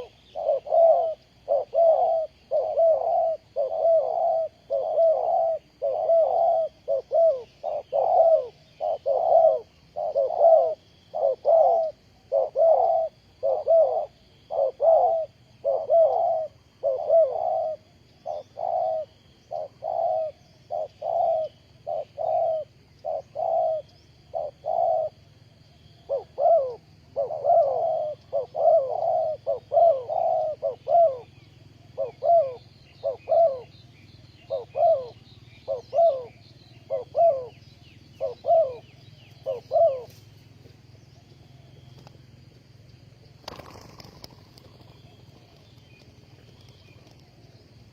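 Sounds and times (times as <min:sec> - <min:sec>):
dove cooing: 0:00.0 - 0:47.9.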